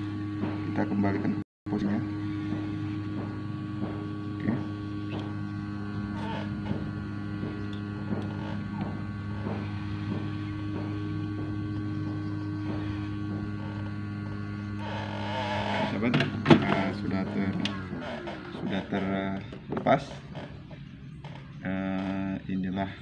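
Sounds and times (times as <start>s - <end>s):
hot air blower humming: 0.0s - 23.0s.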